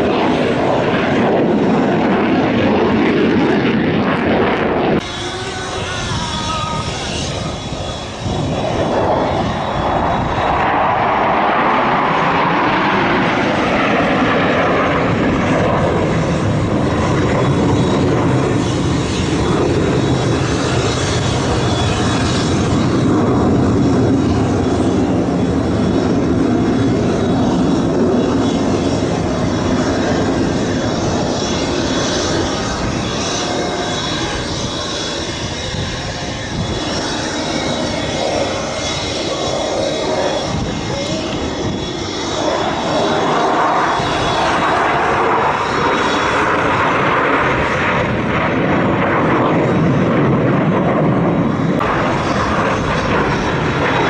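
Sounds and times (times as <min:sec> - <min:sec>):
jet engines roaring overhead: 0:00.0 - 0:54.0.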